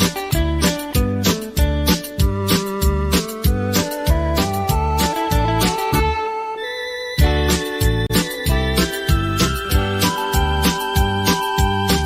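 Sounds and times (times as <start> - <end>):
bass and drum beat: 0.0 - 6.2, 7.2 - 12.0
electronic keyboard melody: 0.0 - 12.0.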